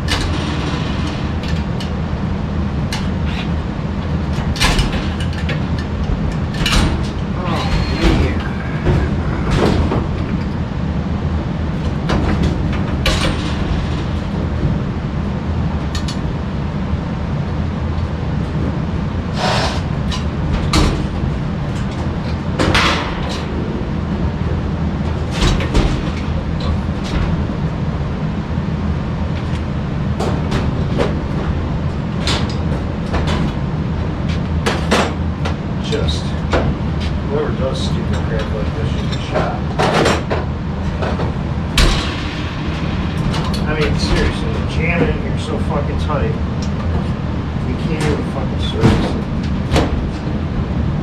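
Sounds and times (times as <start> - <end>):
low rumble: 0.0 - 34.7, 38.3 - 51.0.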